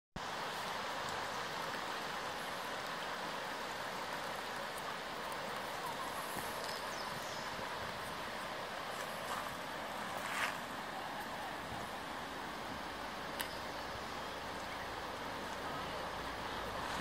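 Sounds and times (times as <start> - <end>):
stream flowing over pebbles: 0.2 - 17.0.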